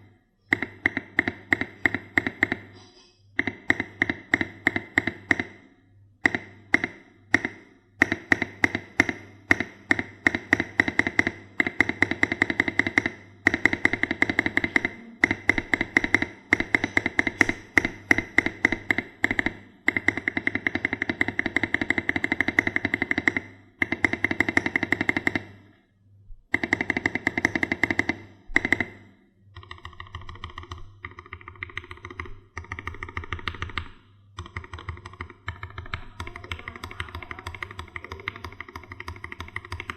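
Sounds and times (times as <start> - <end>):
mechanical keyboard typing: 0.0 - 2.7, 3.4 - 5.6, 6.2 - 25.6, 26.5 - 39.9.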